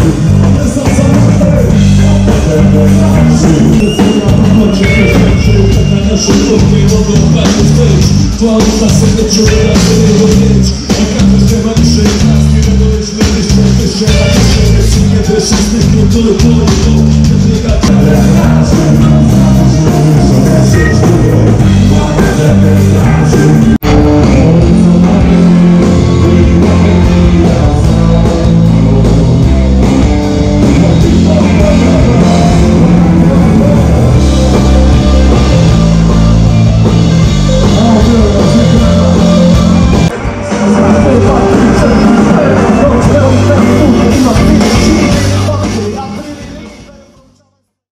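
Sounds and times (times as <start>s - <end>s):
live rock band playing: 0.0s - 47.2s
man singing: 0.0s - 47.8s.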